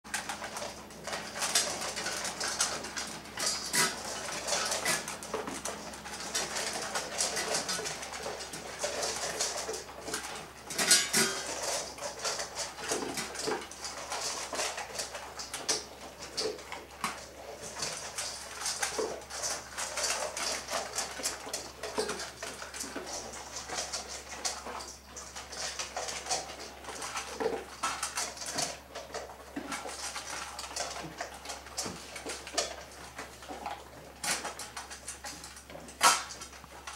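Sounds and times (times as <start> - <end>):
dogs chewing and crunching: 0.0 - 36.9
metal bowls clinking and knocking: 0.1 - 36.9.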